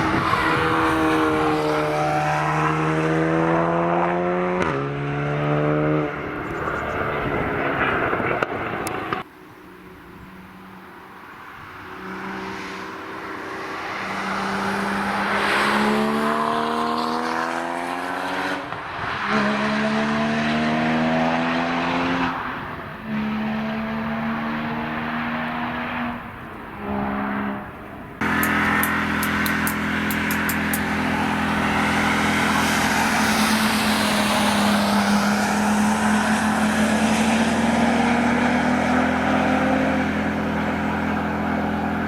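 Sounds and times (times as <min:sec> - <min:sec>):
car engine accelerating: 0:00.0 - 0:09.3, 0:12.0 - 0:42.0.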